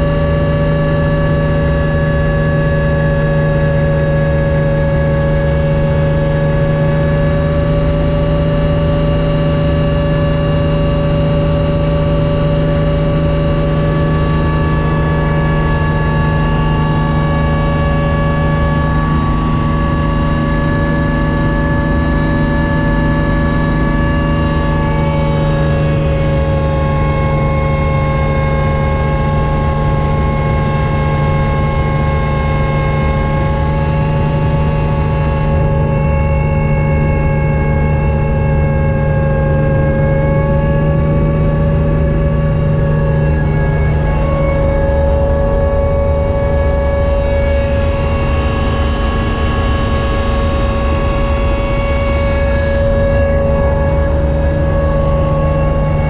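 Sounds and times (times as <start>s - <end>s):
helicopter engine and rotor drone: 0.0s - 56.0s
whining tones: 0.0s - 56.0s.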